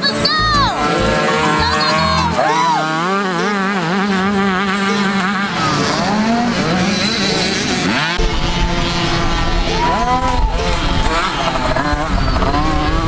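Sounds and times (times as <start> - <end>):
dirt bike engines racing: 0.0 - 13.0.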